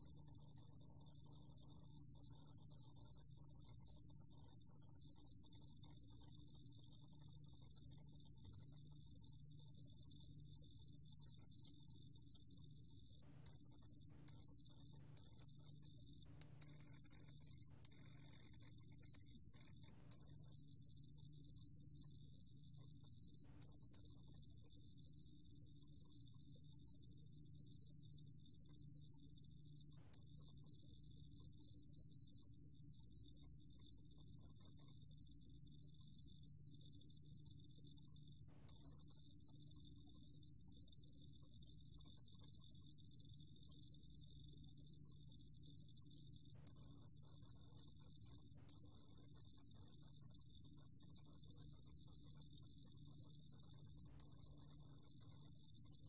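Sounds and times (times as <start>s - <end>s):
cricket trilling: 9.0s - 27.1s, 28.4s - 56.0s.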